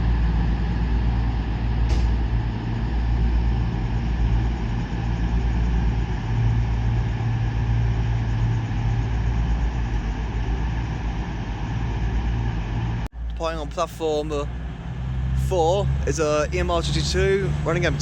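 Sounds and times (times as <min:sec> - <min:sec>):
diesel engines idling: 0:00.0 - 0:18.0.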